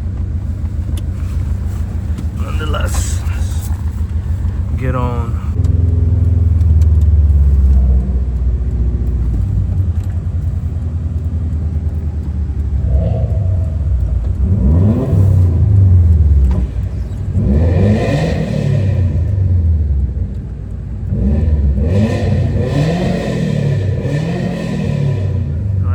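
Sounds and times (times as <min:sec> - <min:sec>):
car engine running and revving: 0:00.0 - 0:25.9.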